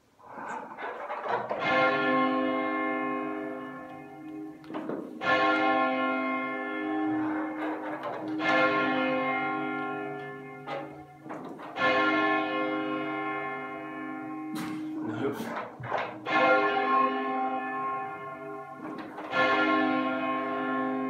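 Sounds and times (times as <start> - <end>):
tower bells ringing: 1.5 - 21.0.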